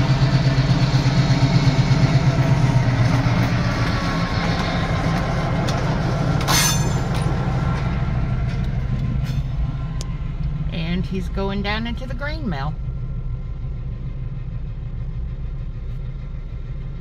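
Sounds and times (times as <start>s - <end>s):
diesel locomotive engine hum: 0.0s - 17.0s.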